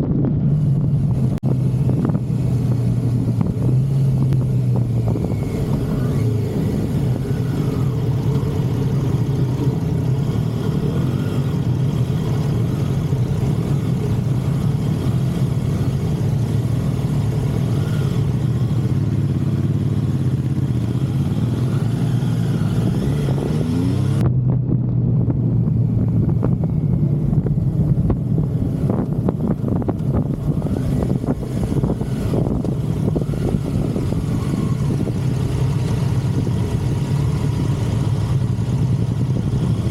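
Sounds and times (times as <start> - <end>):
motorcycle engine running: 0.0 - 39.9
rushing wind: 0.0 - 39.9.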